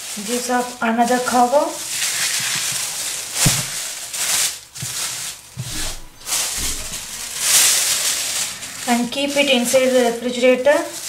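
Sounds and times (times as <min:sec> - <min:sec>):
plastic cover rustling: 0:00.0 - 0:11.0.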